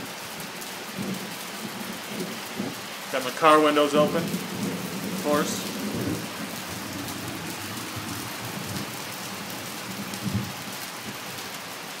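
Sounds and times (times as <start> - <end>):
hail hitting the ground: 0.0 - 12.0.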